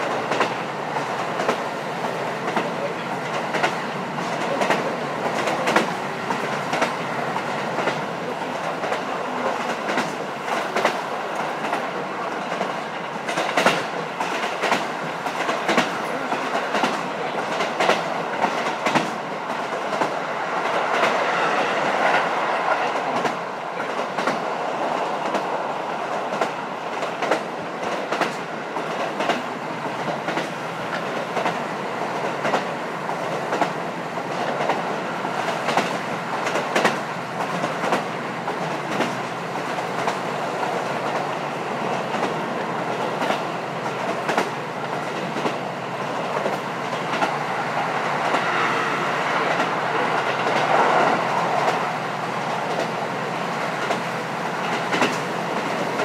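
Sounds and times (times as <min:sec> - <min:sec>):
train engine and running gear rumble: 0:00.0 - 0:56.0.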